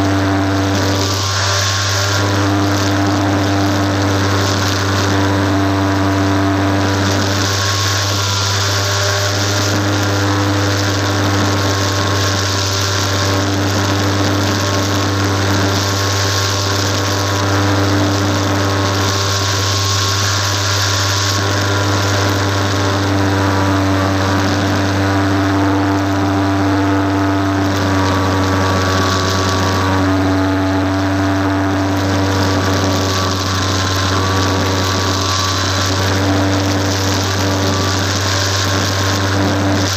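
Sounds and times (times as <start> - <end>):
model plane electric motor drone: 0.0 - 39.9.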